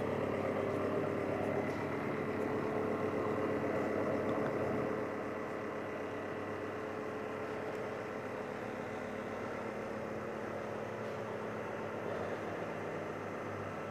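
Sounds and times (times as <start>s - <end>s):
motor humming: 0.0s - 13.9s.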